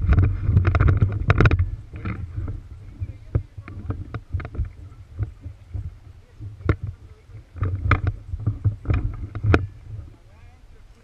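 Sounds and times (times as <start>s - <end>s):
thuds and knocks: 0.0s - 10.0s
low rumble: 0.0s - 11.0s.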